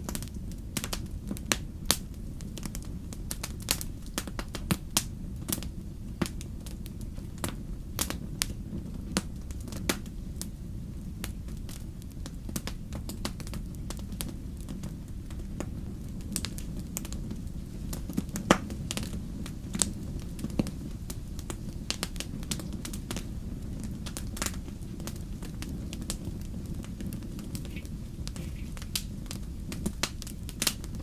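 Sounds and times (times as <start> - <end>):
bonfire pops and snaps: 0.0 - 10.5, 11.1 - 31.0
fire burning rush: 0.0 - 31.0.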